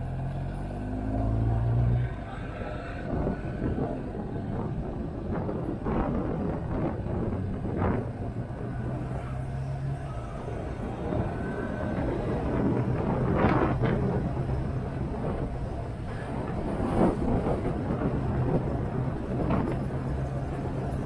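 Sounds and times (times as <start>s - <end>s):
wind rushing on microphone: 1.6s - 21.0s.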